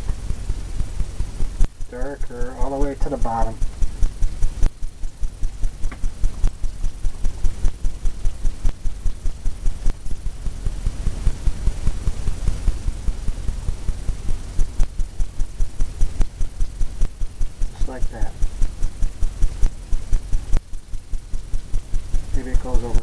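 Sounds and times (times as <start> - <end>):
brush strokes thumping on canvas: 0.0 - 23.0.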